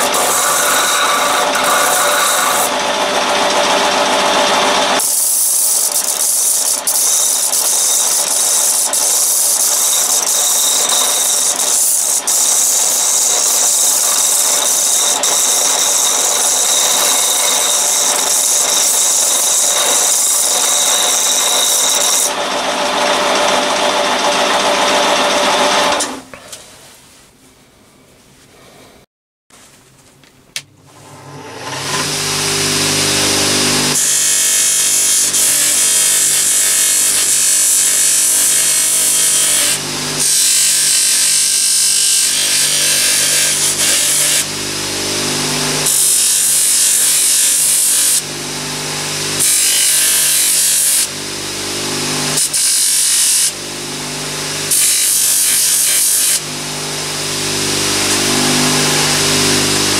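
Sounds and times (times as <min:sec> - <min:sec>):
disc sander grinding steel: 0:00.0 - 0:26.1, 0:31.6 - 0:59.9.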